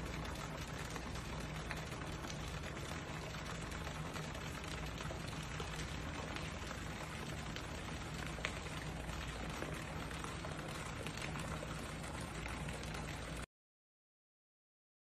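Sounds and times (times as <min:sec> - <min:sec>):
fountain water splashing: 0:00.0 - 0:13.5
low steady hum: 0:00.0 - 0:13.5
water droplets ticking: 0:00.0 - 0:13.5.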